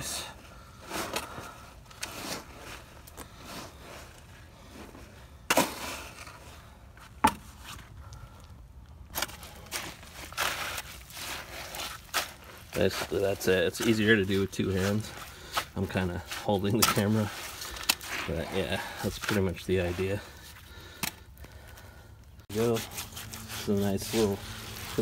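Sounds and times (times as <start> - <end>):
stick scraping in concrete mix: 0.0 - 8.0, 9.1 - 21.5, 22.4 - 25.0.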